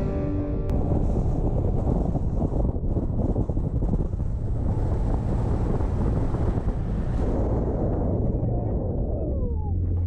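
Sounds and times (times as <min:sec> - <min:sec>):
vehicle driving rumble: 0:00.0 - 0:10.0
wind buffeting microphone: 0:00.7 - 0:10.0.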